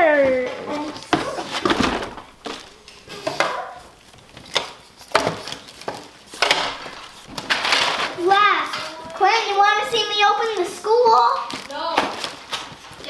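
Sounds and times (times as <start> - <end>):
packaging rustling: 0.7 - 13.0.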